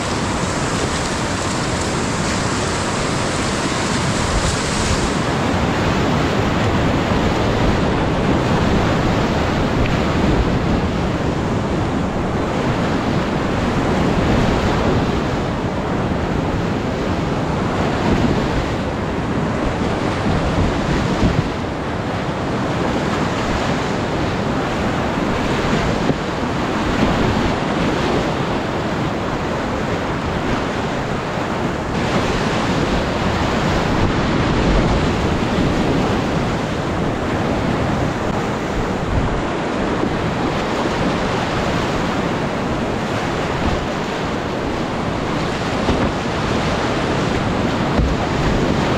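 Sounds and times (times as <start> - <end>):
whitewater rapids rushing: 0.0 - 48.9
wind buffeting microphone: 0.0 - 48.9.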